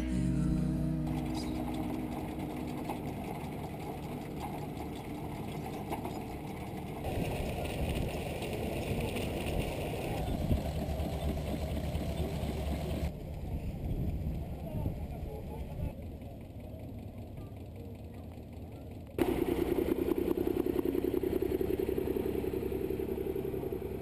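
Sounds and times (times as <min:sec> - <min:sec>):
steam threshing machinery running: 0:00.6 - 0:13.4, 0:16.2 - 0:24.0.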